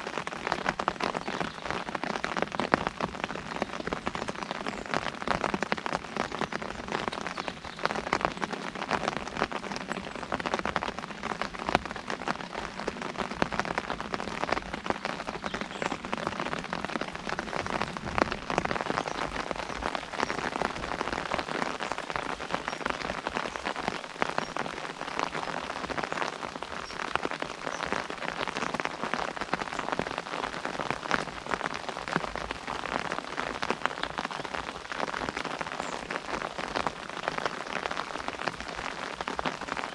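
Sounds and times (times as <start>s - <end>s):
rain pattering on an umbrella: 0.0s - 39.9s.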